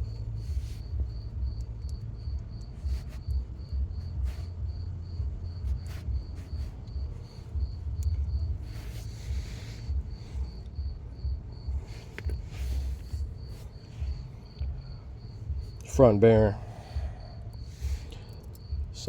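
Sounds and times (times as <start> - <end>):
cricket chirping: 0.0 - 19.0
low rumble: 0.0 - 19.0.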